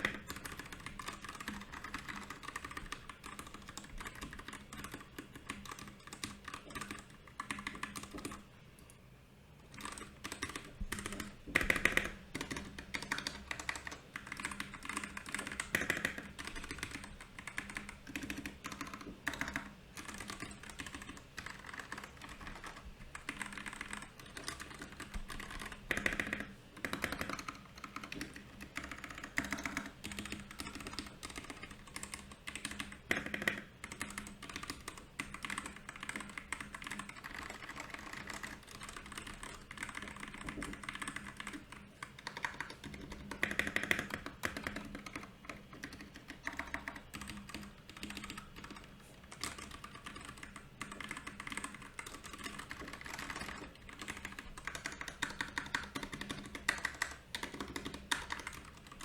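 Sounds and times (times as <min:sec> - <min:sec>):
mechanical keyboard typing: 0:00.0 - 0:08.9, 0:09.6 - 0:59.0.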